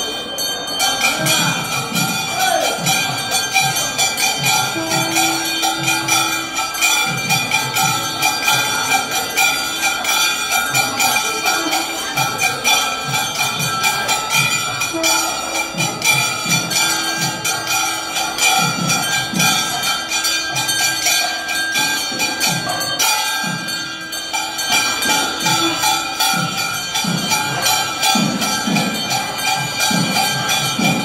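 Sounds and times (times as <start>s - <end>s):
temple bells clanging: 0.0s - 31.0s
steady drum beat: 0.8s - 31.0s.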